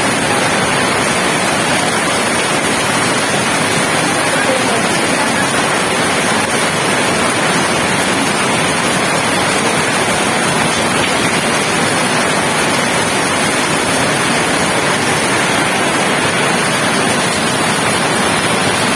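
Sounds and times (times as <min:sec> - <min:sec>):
heavy rain falling: 0:00.0 - 0:18.9.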